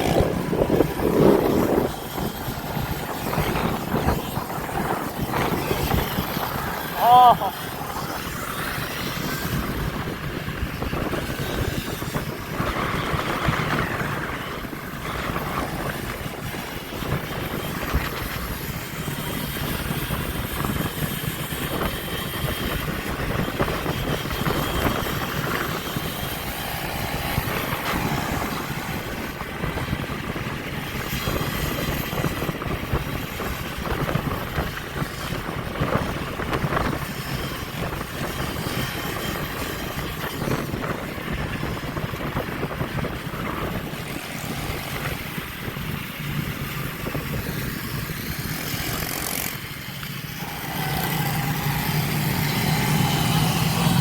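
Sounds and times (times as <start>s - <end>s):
motorbike engines running: 0.0s - 54.0s.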